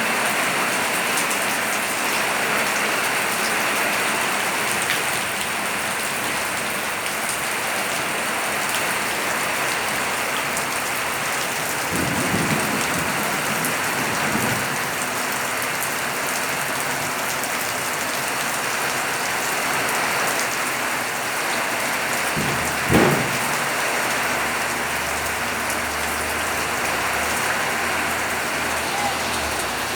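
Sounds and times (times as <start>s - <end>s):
heavy rain pattering: 0.0s - 29.9s.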